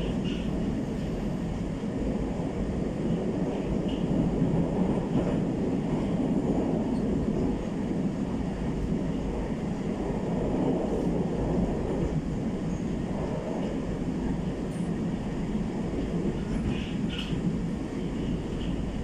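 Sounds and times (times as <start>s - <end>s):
metro train rumbling on rails: 0.0s - 19.0s.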